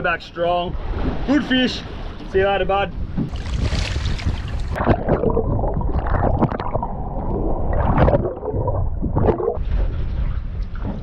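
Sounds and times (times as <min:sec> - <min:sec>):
underwater gurgling and sloshing: 0:00.0 - 0:11.0
water swishes: 0:00.6 - 0:11.0.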